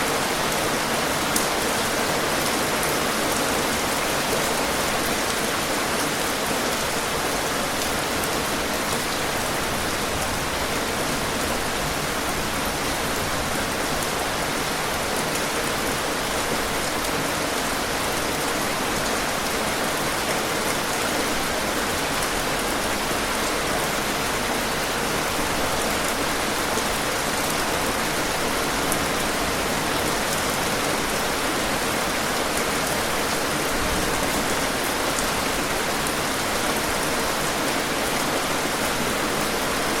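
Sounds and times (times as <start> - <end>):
rain falling on a surface: 0.0 - 40.0.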